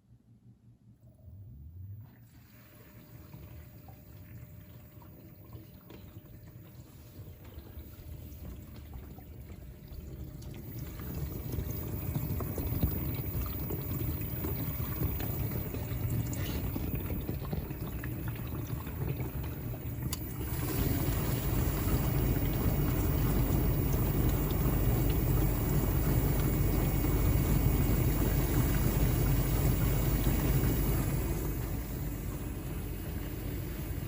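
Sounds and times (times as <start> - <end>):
water rushing in dishwasher: 2.0 - 34.0.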